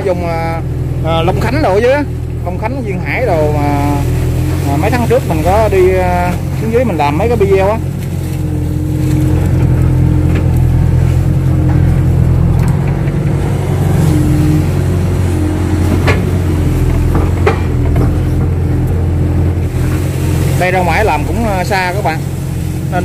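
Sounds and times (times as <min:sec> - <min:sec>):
excavator diesel engine: 0:00.0 - 0:23.0
hydraulic whine: 0:00.0 - 0:23.0.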